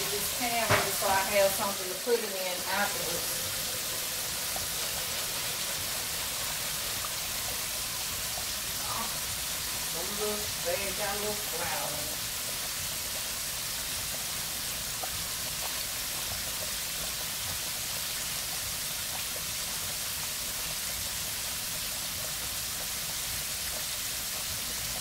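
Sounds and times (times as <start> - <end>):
oil sizzling while deep-frying: 0.0 - 25.0.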